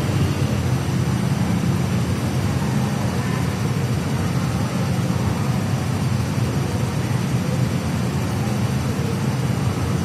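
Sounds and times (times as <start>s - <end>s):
train low hum and rumble: 0.0s - 10.0s.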